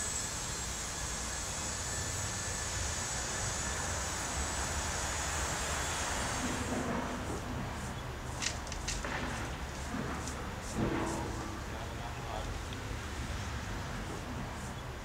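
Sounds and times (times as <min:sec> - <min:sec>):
distant traffic rumble: 0:02.8 - 0:15.0.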